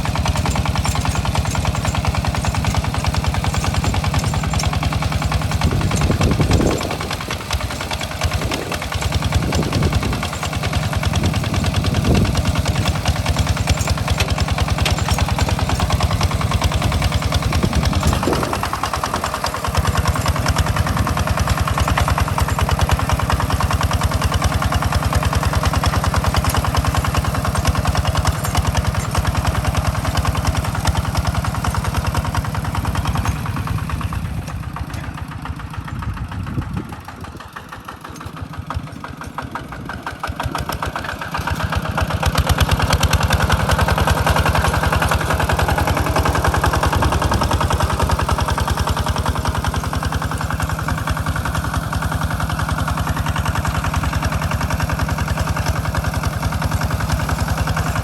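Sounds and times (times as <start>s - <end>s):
walk-behind tractor engine chugging: 0.0s - 58.0s.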